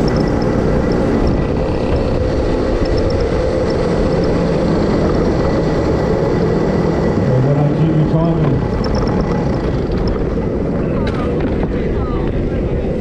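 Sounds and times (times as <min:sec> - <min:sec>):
racing kart engine rumble: 0:00.0 - 0:13.0
wind buffeting microphone: 0:00.0 - 0:13.0.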